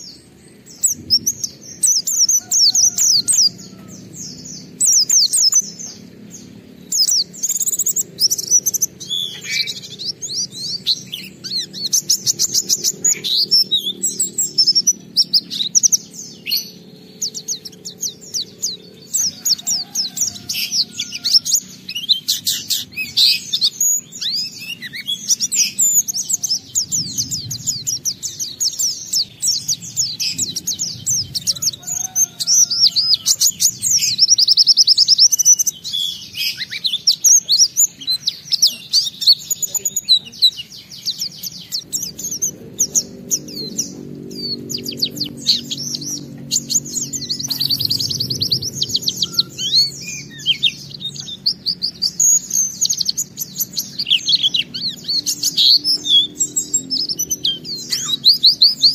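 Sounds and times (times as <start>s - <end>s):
bird singing chirps and trills: 0.0s - 58.9s.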